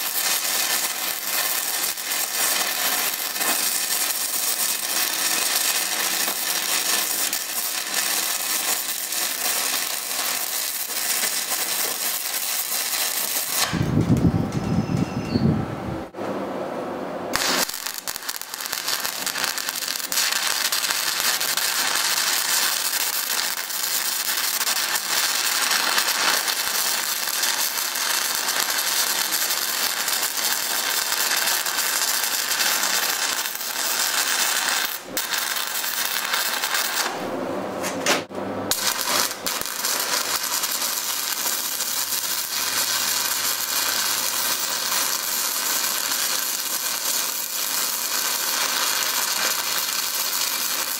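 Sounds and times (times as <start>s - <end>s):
welding arc crackling and hissing: 0.0s - 14.6s, 17.3s - 37.2s, 38.7s - 50.9s.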